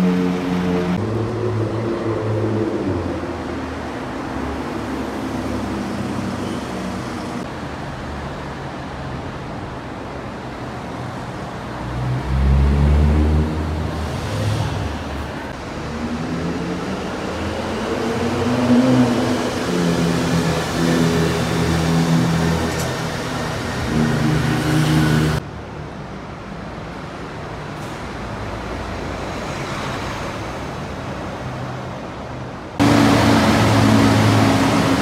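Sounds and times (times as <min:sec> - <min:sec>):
cars passing in a tunnel: 0:00.0 - 0:35.0.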